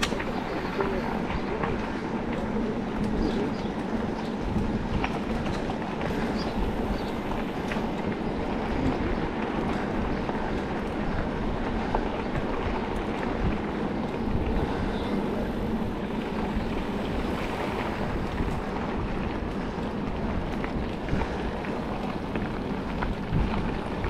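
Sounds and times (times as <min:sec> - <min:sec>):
bike tyre noise: 0:00.0 - 0:24.0
wind on microphone: 0:00.0 - 0:24.0.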